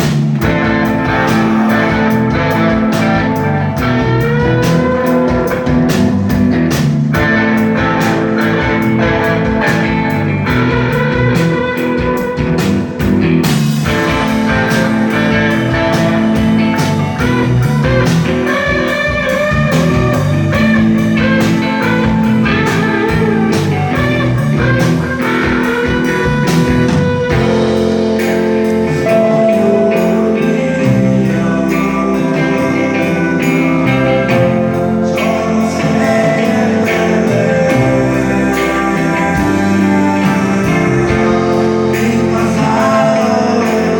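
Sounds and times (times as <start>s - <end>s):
electric guitar: 0.0s - 43.9s
live rock band: 0.0s - 43.9s.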